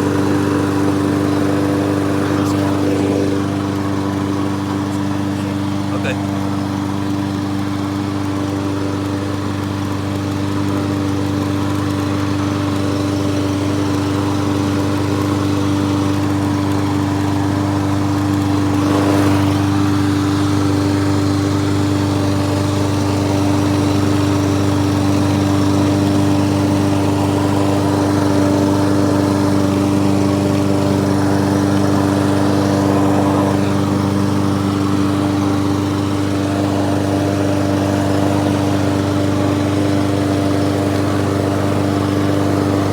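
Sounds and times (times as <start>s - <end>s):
lawnmower engine running: 0.0s - 42.9s.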